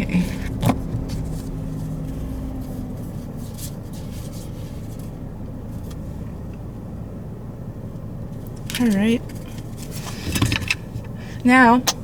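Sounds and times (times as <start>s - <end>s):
engine rumble inside cabin: 0.0s - 12.0s.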